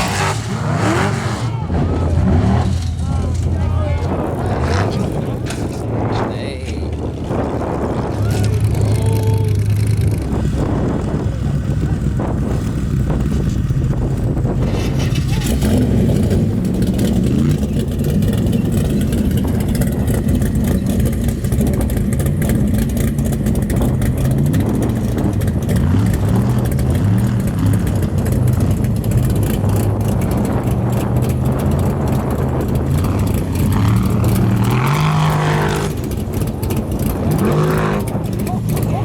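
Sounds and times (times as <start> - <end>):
buggy engine revving: 0.0 - 39.0.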